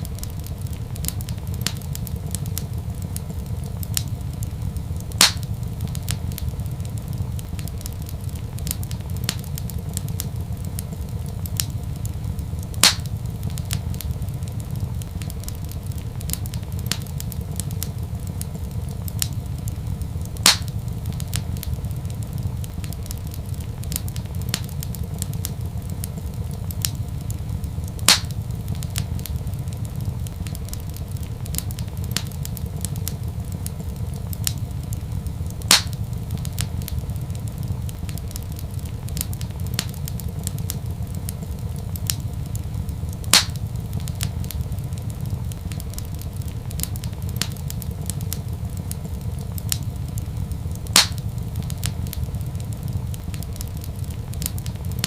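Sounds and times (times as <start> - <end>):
fire popping: 0.0 - 55.0
low rumble: 0.0 - 55.0
wood fire crackling: 0.0 - 55.0.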